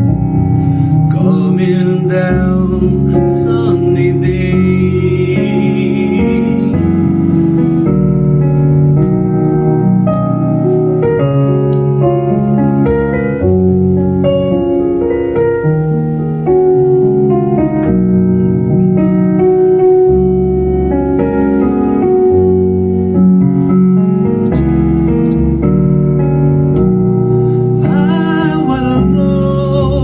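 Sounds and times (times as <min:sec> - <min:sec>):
piano-like keyboard music: 0:00.0 - 0:30.0.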